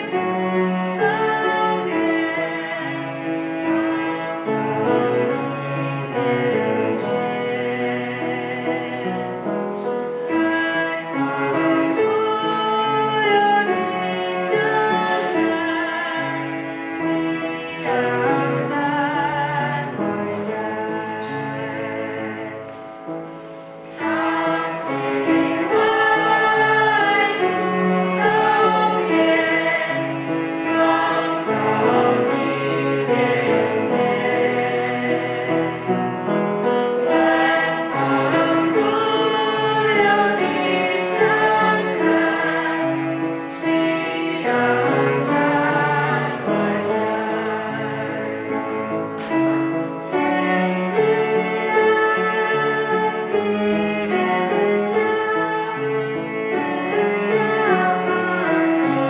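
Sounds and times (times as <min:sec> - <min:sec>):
bowed cello: 0:00.0 - 0:59.0
choir singing in unison: 0:00.0 - 0:59.0.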